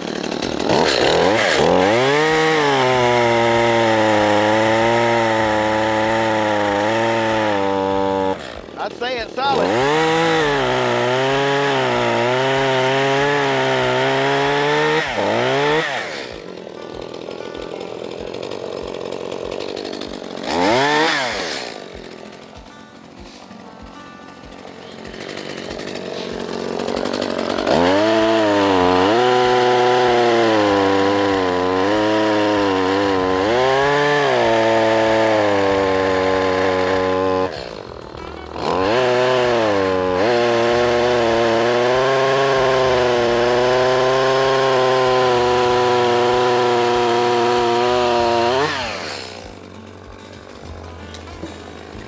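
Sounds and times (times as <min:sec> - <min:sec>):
chainsaw cutting through log: 0:00.0 - 0:52.0.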